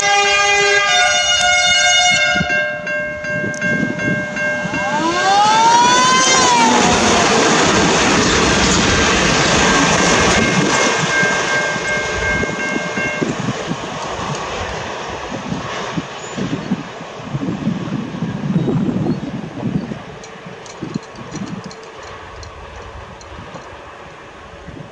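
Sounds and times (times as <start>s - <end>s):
engine and wheel rumble: 1.2s - 24.9s.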